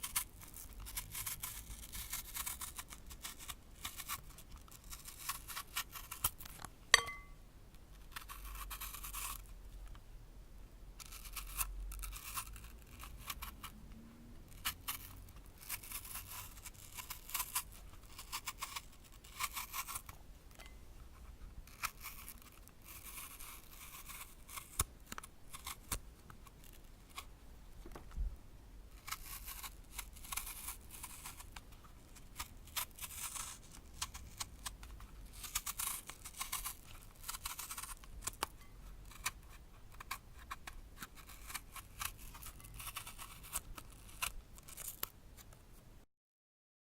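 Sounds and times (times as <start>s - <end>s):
blade rasping peeling apple: 0.0s - 6.6s, 8.0s - 9.5s, 11.0s - 13.8s, 14.5s - 20.2s, 21.6s - 27.3s, 28.9s - 45.5s.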